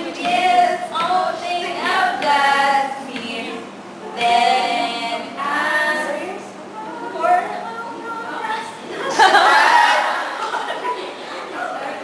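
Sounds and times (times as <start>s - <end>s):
young women singing together: 0.0s - 10.8s.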